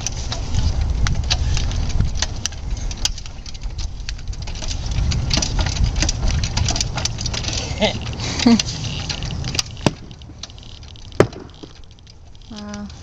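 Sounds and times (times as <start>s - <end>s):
steady low rumble: 0.0s - 13.0s
tree jack metallic clicks: 0.0s - 13.0s.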